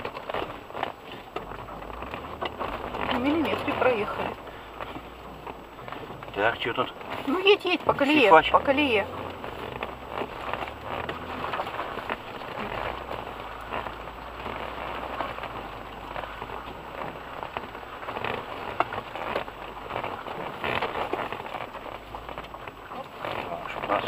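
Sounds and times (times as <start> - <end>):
mud and water spraying underbody: 0.0 - 24.0
low engine drone: 1.4 - 21.0.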